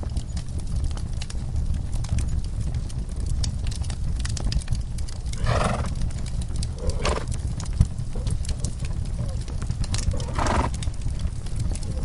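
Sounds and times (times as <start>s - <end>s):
steady low rumble: 0.0s - 12.0s
wood fire crackling: 0.0s - 12.0s.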